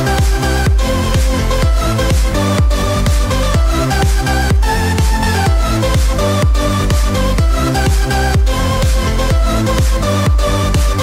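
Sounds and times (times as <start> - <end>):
deep kick drums: 0.0 - 11.0.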